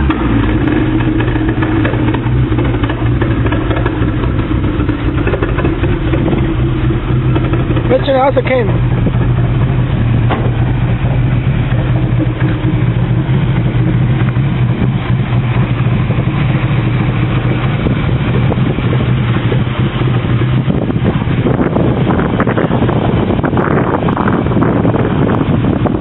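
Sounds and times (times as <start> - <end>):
car engine idling: 0.0 - 26.0
wind on microphone: 0.0 - 26.0.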